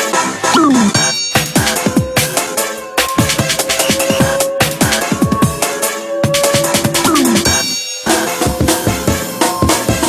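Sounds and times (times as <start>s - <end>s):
held synth note: 1.1s - 9.8s.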